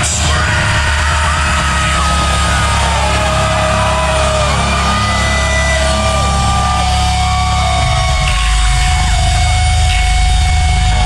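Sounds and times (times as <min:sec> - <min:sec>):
heavy metal band playing live: 0:00.0 - 0:11.0.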